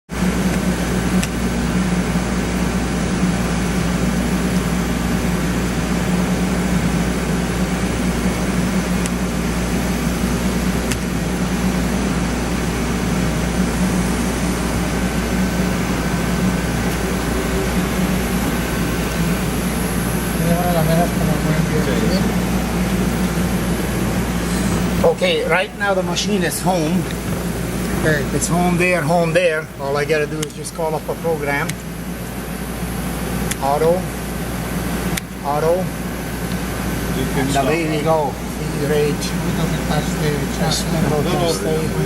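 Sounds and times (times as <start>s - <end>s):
machinery humming: 0.1s - 42.0s.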